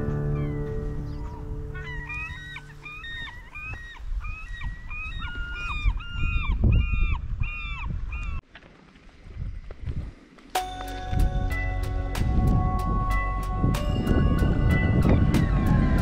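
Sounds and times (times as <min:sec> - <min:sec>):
gulls calling: 0:00.0 - 0:08.4, 0:11.5 - 0:16.0.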